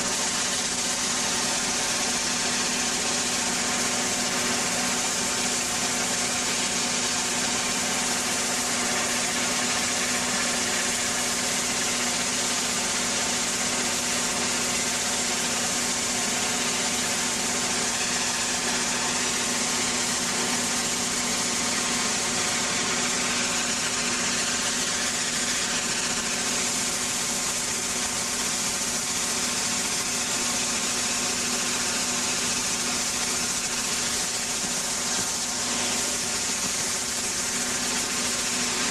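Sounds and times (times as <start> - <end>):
high-pressure water jet hiss: 0.0 - 38.9
machine drone: 0.0 - 38.9.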